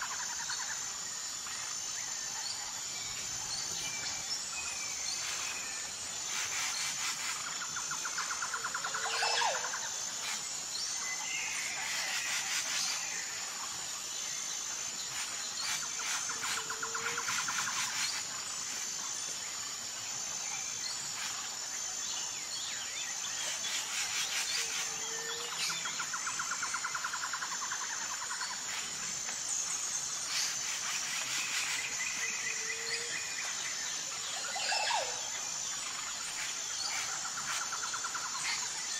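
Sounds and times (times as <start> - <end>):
birds calling and trilling: 0.0 - 13.9, 14.6 - 38.9
pulsing insect chirr: 0.0 - 38.9.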